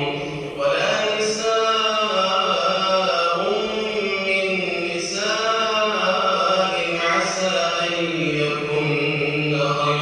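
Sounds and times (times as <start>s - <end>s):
man chanting melodically: 0.0s - 10.0s.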